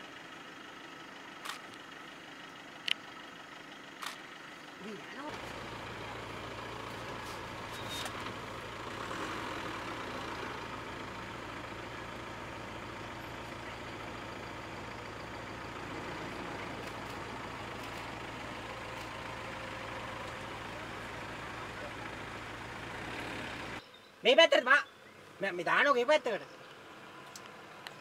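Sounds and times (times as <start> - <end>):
car engine idling: 0.0 - 23.8.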